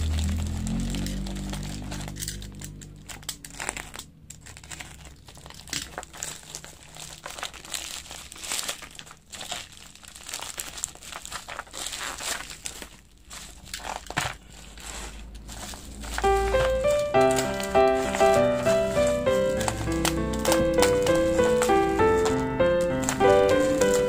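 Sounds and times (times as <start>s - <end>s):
plastic and bubble wrap crinkling: 0.0s - 24.0s.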